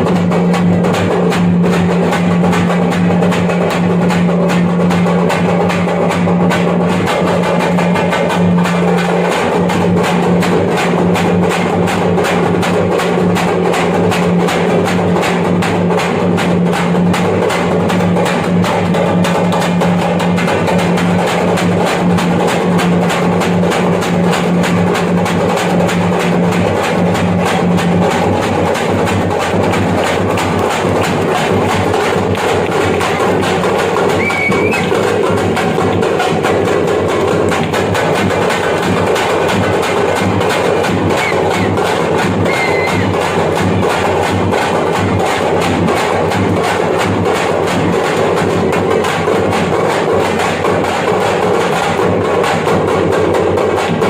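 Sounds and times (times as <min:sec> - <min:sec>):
frame drums beaten fast: 0:00.0 - 0:54.0.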